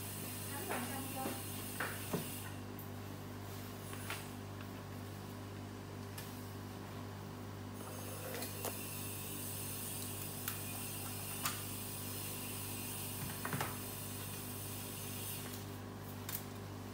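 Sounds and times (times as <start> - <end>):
low room hum: 0.0 - 16.9.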